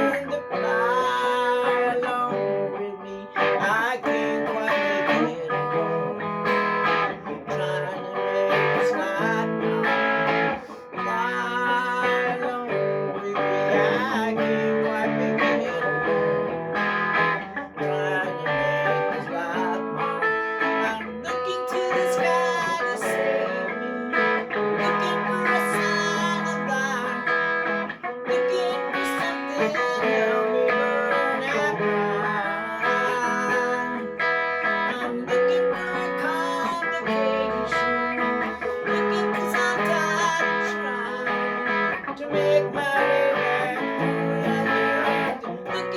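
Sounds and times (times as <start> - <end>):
guitar plucked and strummed: 0.0 - 45.9.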